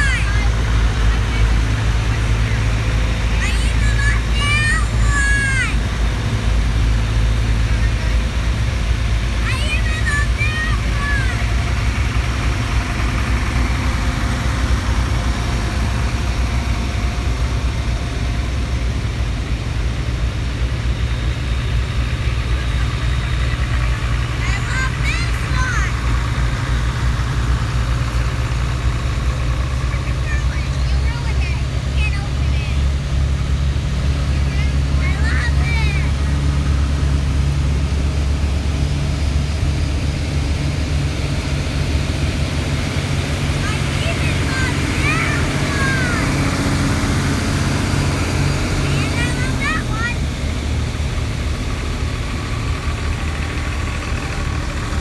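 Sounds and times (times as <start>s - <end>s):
tractor engines rumbling: 0.0s - 55.0s.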